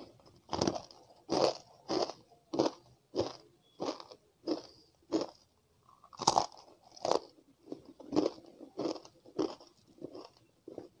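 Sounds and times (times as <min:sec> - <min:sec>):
crisp snack crunching: 0:00.5 - 0:10.9.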